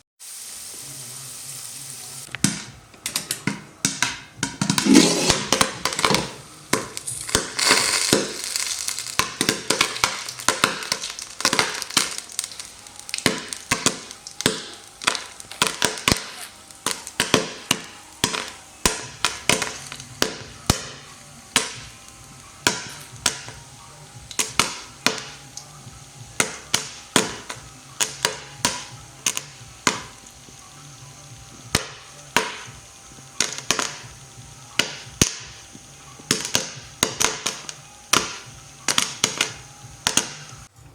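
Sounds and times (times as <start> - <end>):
popcorn kernels popping: 2.3 - 40.9.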